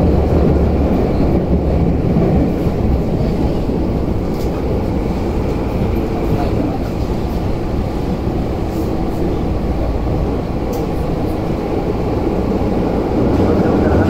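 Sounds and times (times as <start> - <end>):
train rumbling through tunnel: 0.0 - 14.0.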